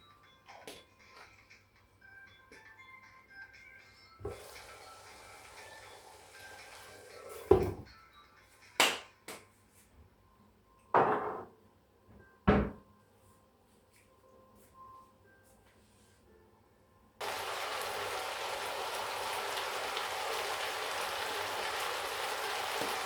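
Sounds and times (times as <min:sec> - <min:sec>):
faint background music: 0:00.0 - 0:23.0.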